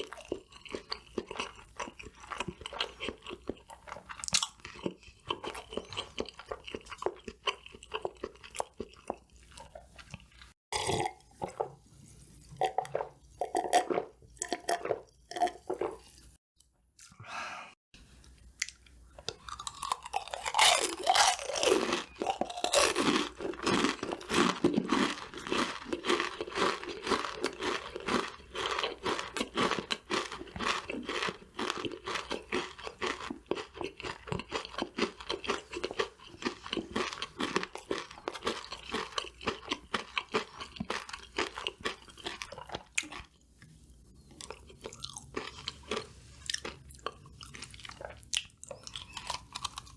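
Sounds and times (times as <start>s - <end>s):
crunchy food chewing: 0.0s - 11.8s, 12.4s - 16.3s, 18.6s - 49.9s.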